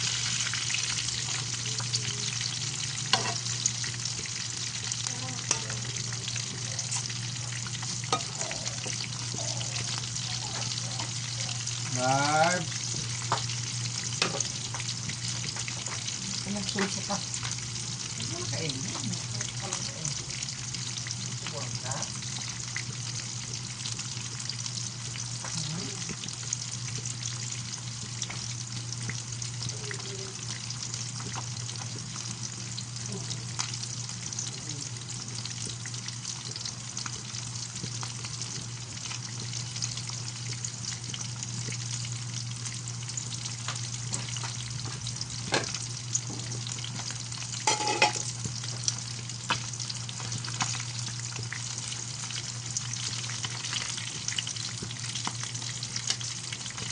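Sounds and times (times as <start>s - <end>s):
fish frying in hot oil: 0.0s - 56.9s.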